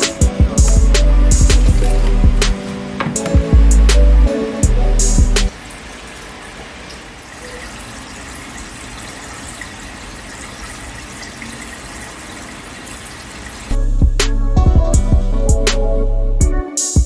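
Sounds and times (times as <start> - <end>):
water splashing into aquarium: 0.0 - 13.8.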